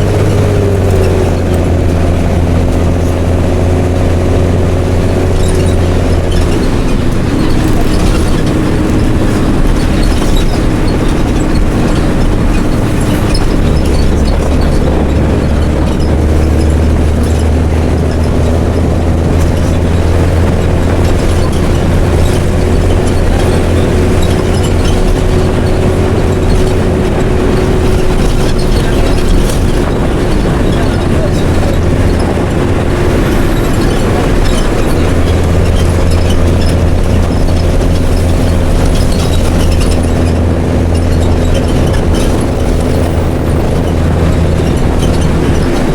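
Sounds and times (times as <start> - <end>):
body rattles: 0.0 - 45.9
bus diesel engine running: 0.0 - 45.9.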